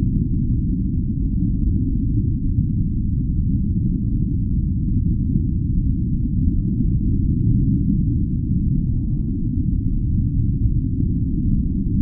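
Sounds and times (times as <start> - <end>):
deep rumbling brown noise: 0.0 - 12.0.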